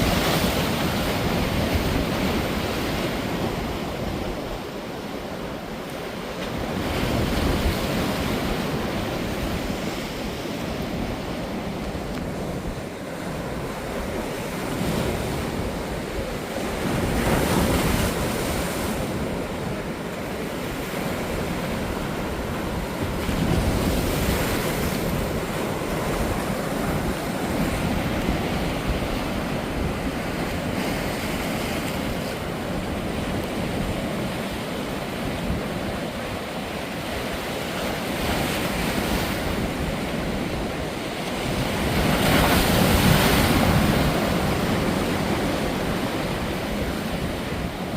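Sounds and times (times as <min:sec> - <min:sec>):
sea waves breaking on beach: 0:00.0 - 0:47.9
wind rumble on microphone: 0:00.0 - 0:47.9.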